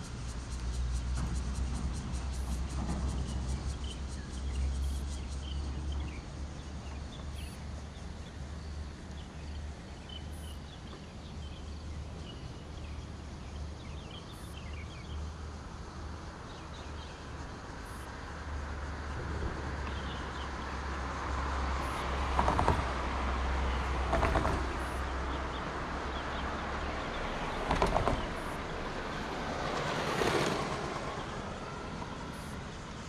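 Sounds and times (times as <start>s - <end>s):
road traffic hiss: 0.0s - 33.0s.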